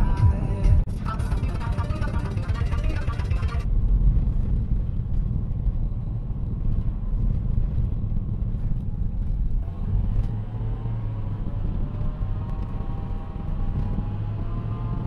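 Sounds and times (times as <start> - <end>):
road and engine rumble in cabin: 0.0 - 15.0.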